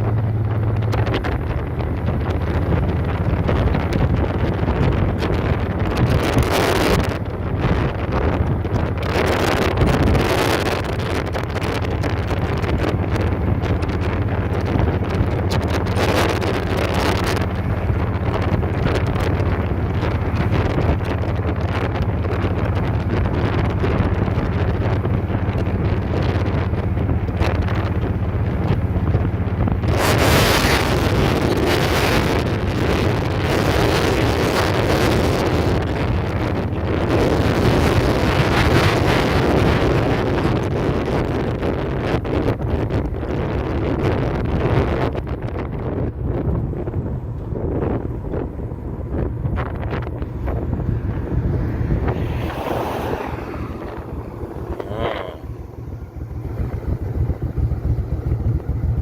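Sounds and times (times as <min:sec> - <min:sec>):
low engine drone: 0:00.0 - 0:35.1, 0:43.9 - 0:59.0
low motorcycle rumble: 0:00.0 - 0:59.0
wind buffeting microphone: 0:00.0 - 0:59.0.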